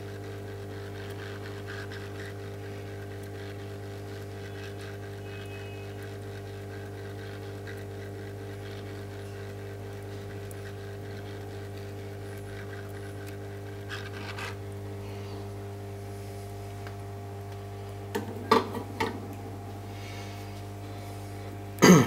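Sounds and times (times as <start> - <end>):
hot-air station blowing hum: 0.0 - 22.0.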